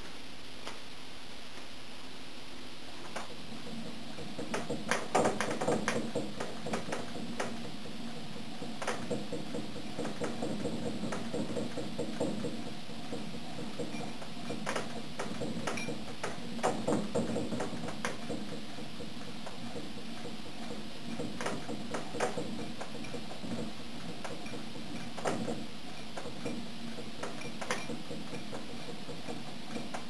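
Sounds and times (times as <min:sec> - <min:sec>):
engine mechanism clicking and knocking: 0:03.1 - 0:30.0.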